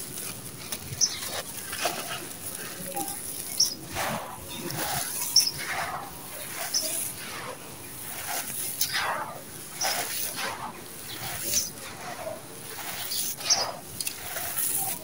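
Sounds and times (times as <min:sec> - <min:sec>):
hands crunching gritty sand mix: 0:00.0 - 0:15.0.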